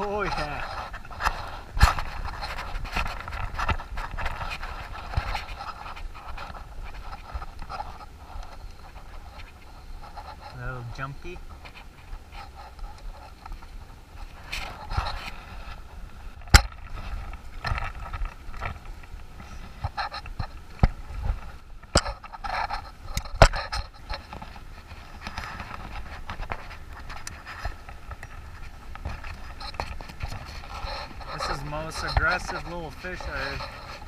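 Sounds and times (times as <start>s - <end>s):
fishing gear rustling and scraping: 0.0s - 34.0s.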